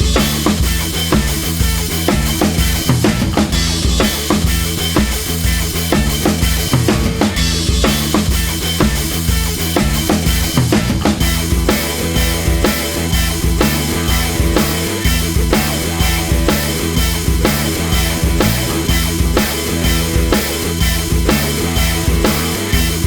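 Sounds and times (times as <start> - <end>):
rock music with drums and bass: 0.0 - 23.0.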